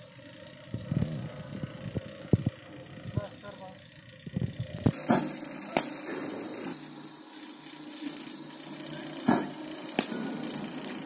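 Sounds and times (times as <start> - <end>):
bowling machine whirring hiss: 0.0 - 11.0.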